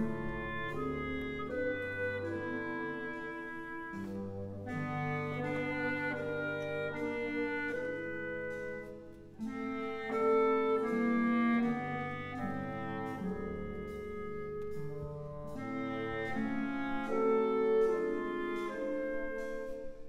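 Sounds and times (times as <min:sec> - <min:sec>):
slow instrumental music: 0:00.0 - 0:20.0.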